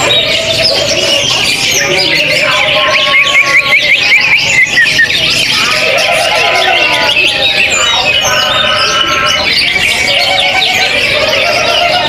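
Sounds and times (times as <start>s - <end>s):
songbirds singing: 0.0s - 12.0s
whistled bird notes: 0.0s - 12.0s.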